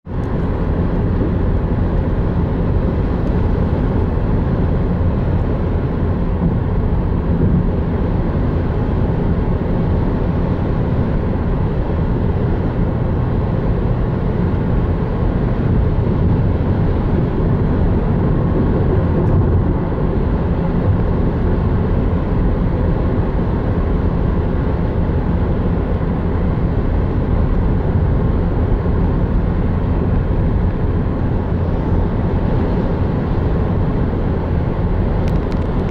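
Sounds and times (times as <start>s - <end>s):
car cabin road drone: 0.0s - 35.9s.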